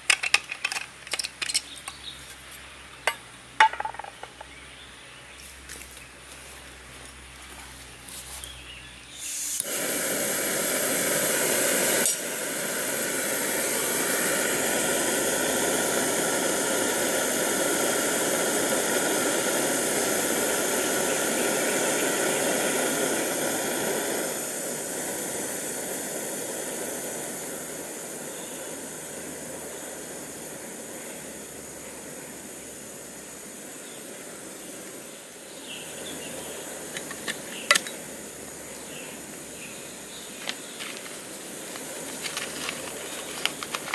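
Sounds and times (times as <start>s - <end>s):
gas stove burner hiss: 5.4s - 43.9s.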